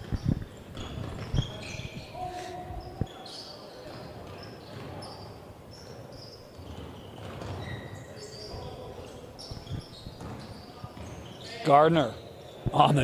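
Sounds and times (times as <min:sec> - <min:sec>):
sneaker squeaks on court: 0:00.0 - 0:02.2, 0:02.8 - 0:12.7
crowd noise: 0:00.0 - 0:13.0.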